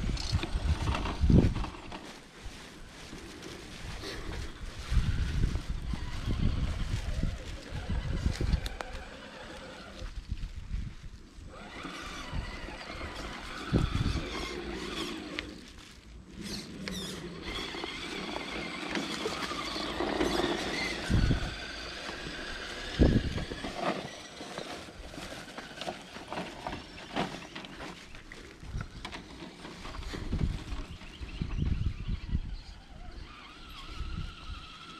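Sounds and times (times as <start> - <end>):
toy car motor whining: 0.0 - 1.8, 4.0 - 10.2, 11.5 - 15.7, 16.3 - 34.9.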